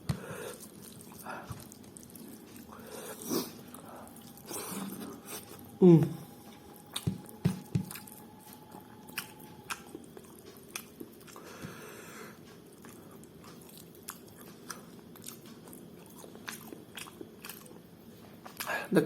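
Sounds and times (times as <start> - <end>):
close chewing of food: 0.0 - 18.8.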